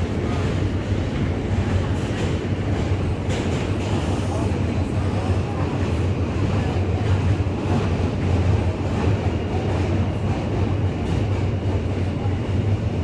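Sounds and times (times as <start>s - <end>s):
subway train running: 0.0s - 13.0s.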